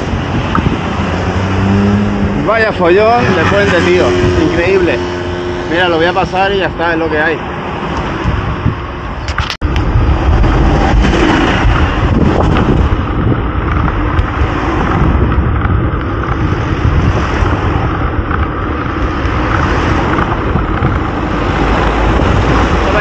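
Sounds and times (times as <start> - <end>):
cars driving past: 0.0 - 23.0
wind buffeting microphone: 0.0 - 23.0.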